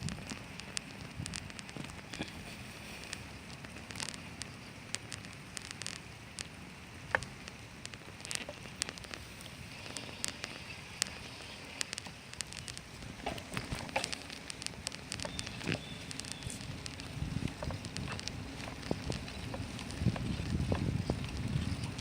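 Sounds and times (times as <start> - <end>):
rain falling: 0.0 - 22.0
raindrops ticking nearby: 0.0 - 22.0.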